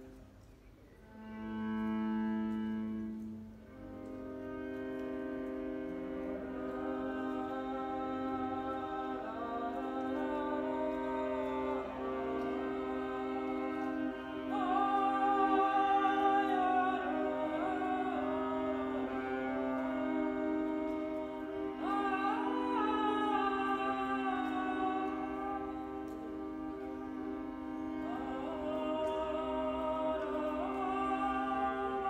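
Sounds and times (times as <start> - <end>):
solo viola bowed notes: 1.0 - 32.0.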